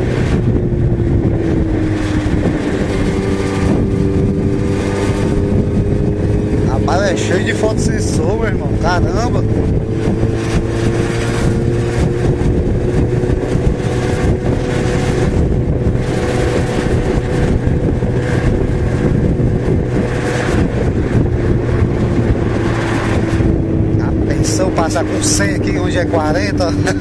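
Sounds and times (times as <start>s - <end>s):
motorcycle engine cruising: 0.0s - 27.0s
wind noise on microphone: 0.0s - 27.0s.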